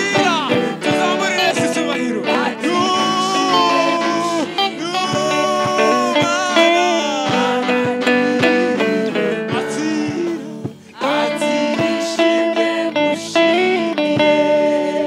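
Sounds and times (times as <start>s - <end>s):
gospel song with guitar and voices: 0.0s - 15.0s.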